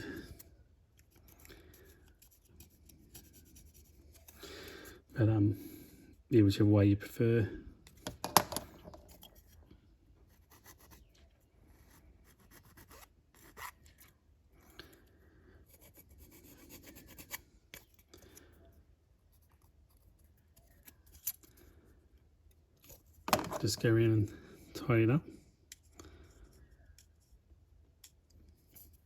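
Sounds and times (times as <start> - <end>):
scraping plastic model parts: 0.0 - 5.0, 7.9 - 18.6, 19.2 - 24.2, 25.7 - 29.0.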